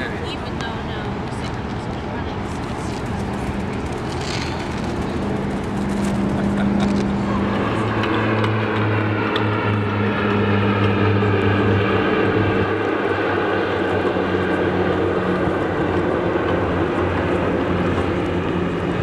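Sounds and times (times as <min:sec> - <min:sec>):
motor droning: 0:02.8 - 0:19.0.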